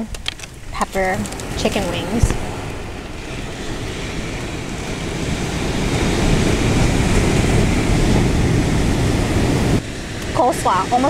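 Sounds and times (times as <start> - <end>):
ocean surf: 0.0 - 11.0
wind buffeting the microphone: 0.0 - 11.0.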